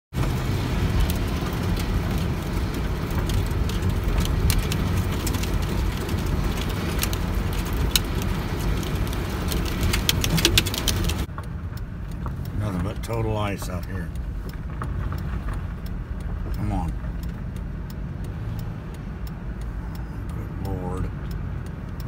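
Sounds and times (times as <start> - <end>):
tyres and engine rumble: 0.1 - 22.0
ice grains ticking on windshield: 0.2 - 22.0.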